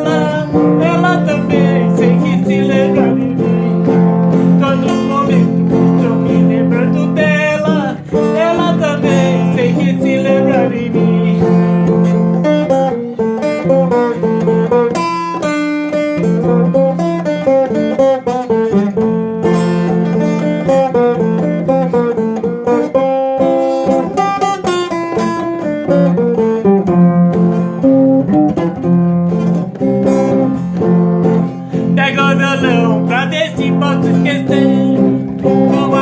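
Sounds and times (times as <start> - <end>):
acoustic guitar picking melody: 0.0 - 36.0
strummed and bass accompaniment: 0.0 - 36.0.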